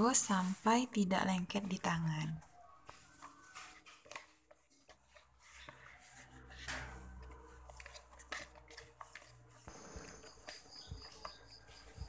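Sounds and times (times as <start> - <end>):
hands kneading dough: 0.0 - 12.0.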